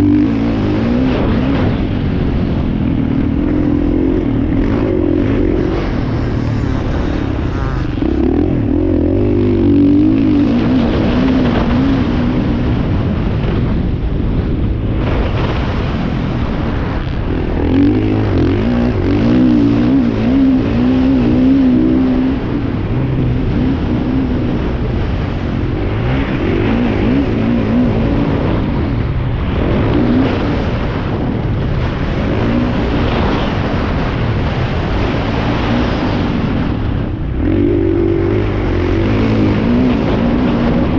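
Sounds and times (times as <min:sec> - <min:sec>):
motocross bike engines racing: 0:00.0 - 0:40.9.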